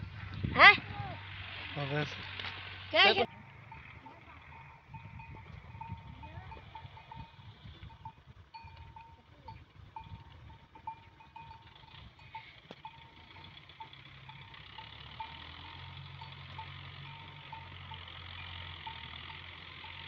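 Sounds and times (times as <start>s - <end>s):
animal bells clinking: 0.6s - 20.0s.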